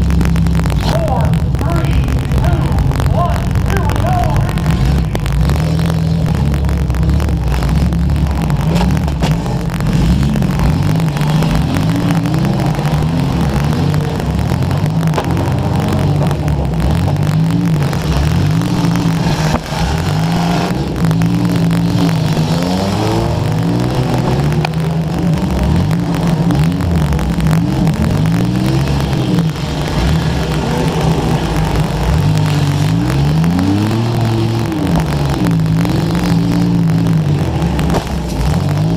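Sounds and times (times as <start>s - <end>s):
car engines revving hard: 0.0s - 38.9s.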